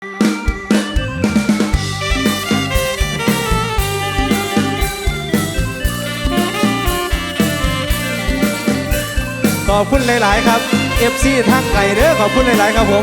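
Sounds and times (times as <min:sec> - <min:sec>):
drum kit beat: 0:00.0 - 0:13.0
melody notes: 0:00.0 - 0:13.0
bass line: 0:00.5 - 0:13.0.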